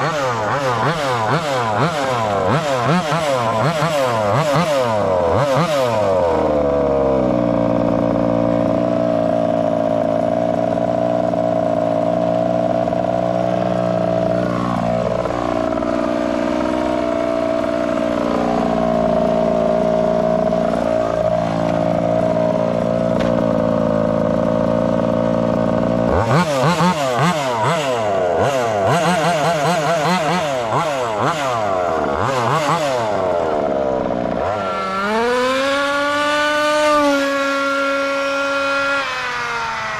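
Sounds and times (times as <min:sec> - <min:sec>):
two-stroke engine idling and revving: 0:00.0 - 0:39.9.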